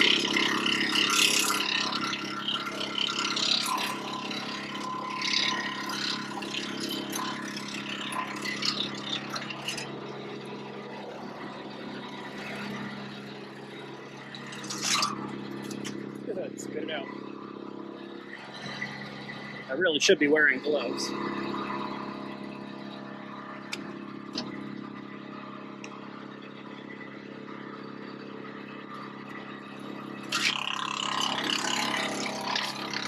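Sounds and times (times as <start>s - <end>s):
wood chipper engine running: 0.0s - 33.0s.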